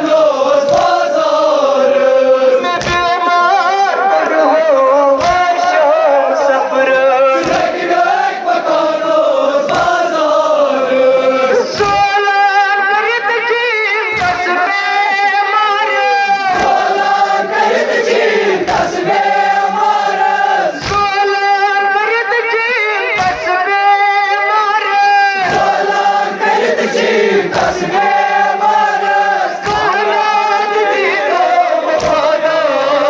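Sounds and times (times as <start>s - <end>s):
men chanting a lament: 0.0s - 33.0s.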